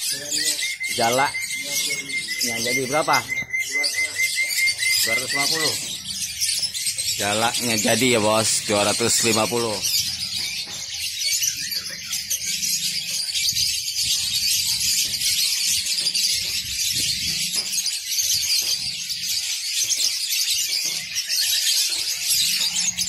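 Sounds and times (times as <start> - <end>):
songbirds chirping and twittering: 0.0 - 23.0.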